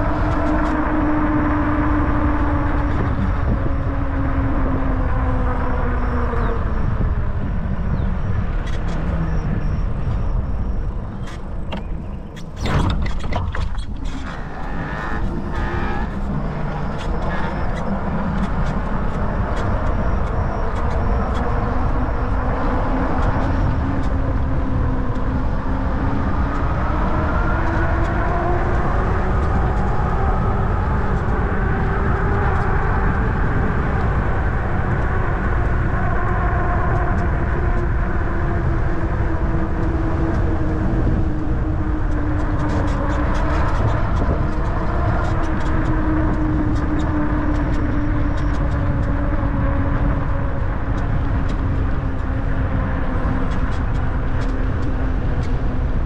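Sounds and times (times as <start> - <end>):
wind rush: 0.0 - 56.0.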